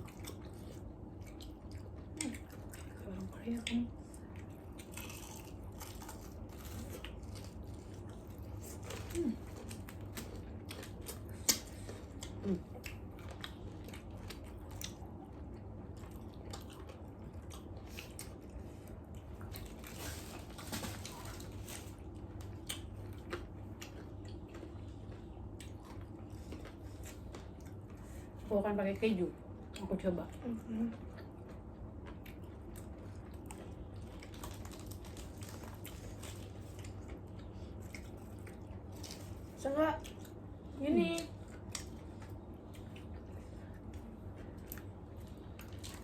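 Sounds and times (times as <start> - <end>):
chewing crunchy food: 0.0 - 28.5, 29.4 - 46.0
steady low hum: 0.0 - 46.0.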